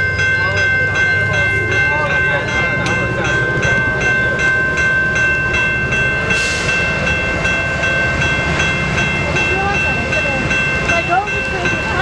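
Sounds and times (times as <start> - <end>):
level crossing bell ringing: 0.0 - 12.0
passenger train rumbling past: 0.0 - 12.0.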